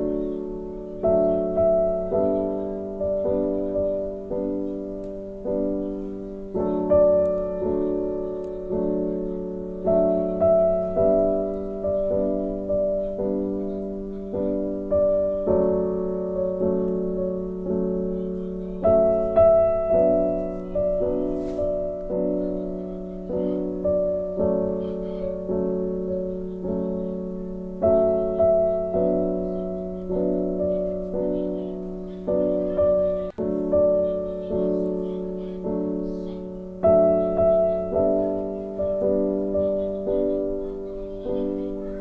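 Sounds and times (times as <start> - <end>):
slow piano melody: 0.0 - 42.0.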